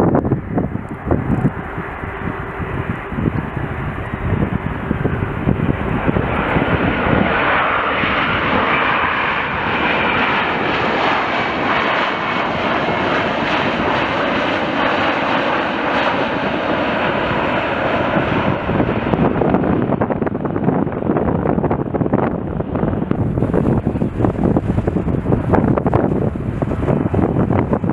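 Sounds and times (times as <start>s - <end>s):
jet airliner passing overhead: 0.0s - 27.9s
wind buffeting microphone: 0.0s - 27.9s.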